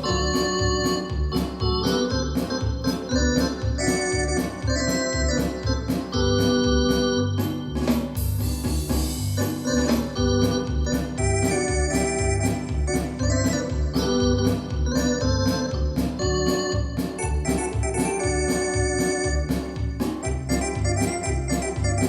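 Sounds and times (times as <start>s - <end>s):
steady percussive beat: 0.0s - 22.0s.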